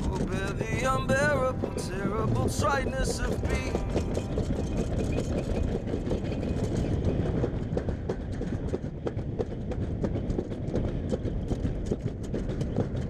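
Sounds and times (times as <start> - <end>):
sled rattling down steel track: 0.0 - 13.0.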